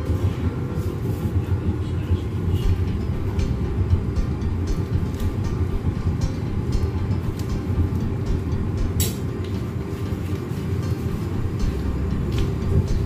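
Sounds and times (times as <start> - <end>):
kitchen machinery rumbling: 0.0 - 13.0.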